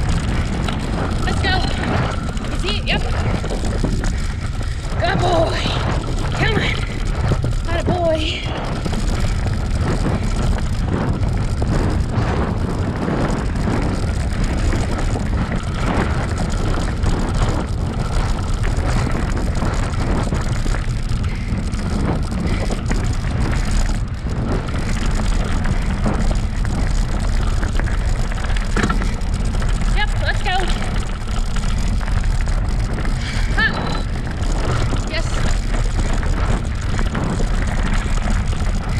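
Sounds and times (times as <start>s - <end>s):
bicycle knocks and rattles: 0.0s - 38.9s
bicycle rolling on dirt trail: 0.0s - 38.9s
wind buffeting microphone: 0.0s - 38.9s.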